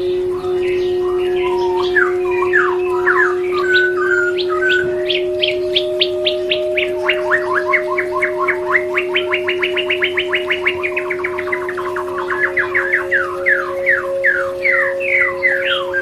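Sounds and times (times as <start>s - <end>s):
songbird whistling song: 0.0s - 16.0s.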